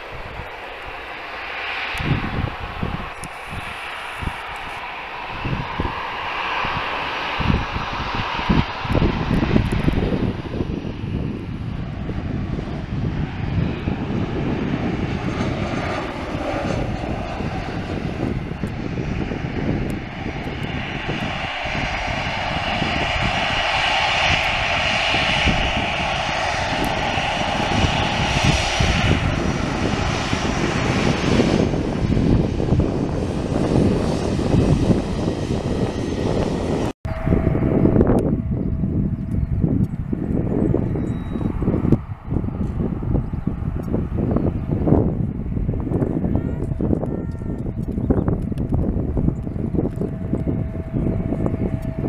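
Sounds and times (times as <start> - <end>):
jet engine noise: 0.0 - 52.0
low rumble: 0.0 - 52.0.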